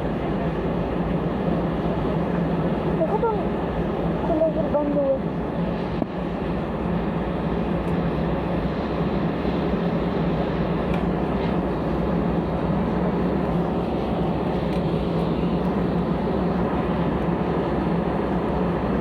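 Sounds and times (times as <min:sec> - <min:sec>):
jet engines and airflow rush: 0:00.0 - 0:19.0.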